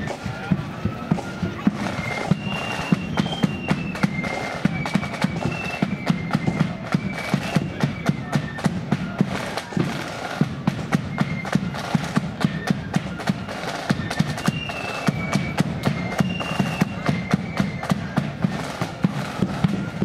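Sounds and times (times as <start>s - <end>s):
flutes playing a tune: 0.0s - 20.0s
snare drums: 0.0s - 20.0s.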